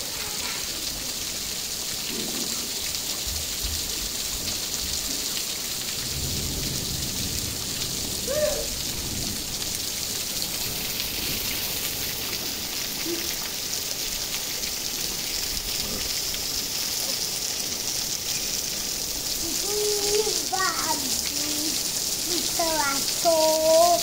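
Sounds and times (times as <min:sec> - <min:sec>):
heavy rain on trees and grass: 0:00.0 - 0:24.0.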